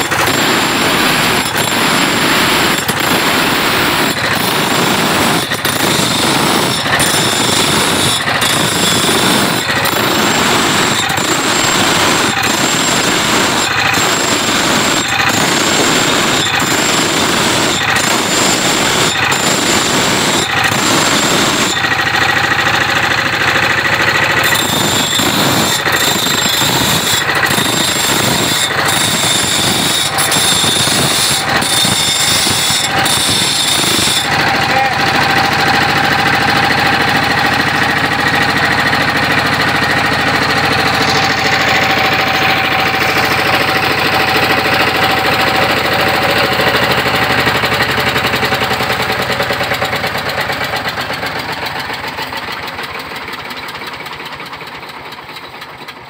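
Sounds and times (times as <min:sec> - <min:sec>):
diesel engine chugging: 0:00.0 - 0:56.0
grinding wheel grinding metal: 0:00.0 - 0:56.0.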